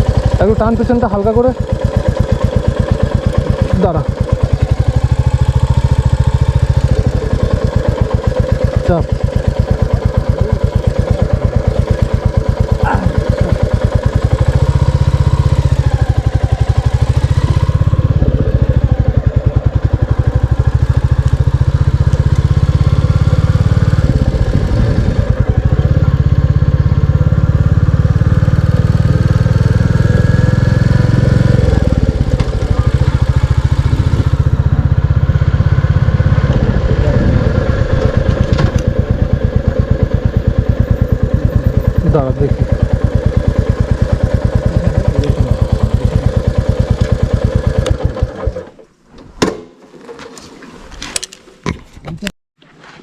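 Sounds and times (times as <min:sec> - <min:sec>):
single-cylinder motorcycle engine thumping: 0:00.0 - 0:50.3, 0:51.0 - 0:52.3.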